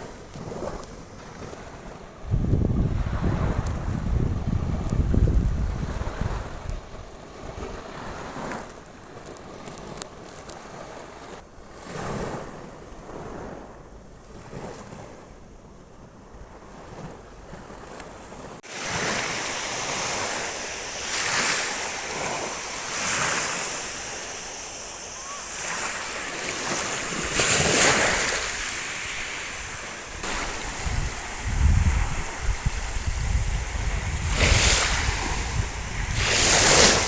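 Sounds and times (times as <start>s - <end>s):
sea waves washing onto beach: 0.0s - 11.4s, 16.6s - 37.0s
wind rumbling on microphone: 0.0s - 37.0s.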